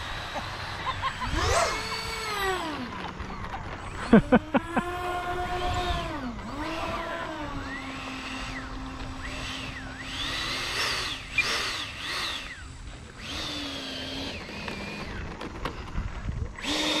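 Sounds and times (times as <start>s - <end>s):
electric ducted fan whining: 0.0s - 17.0s.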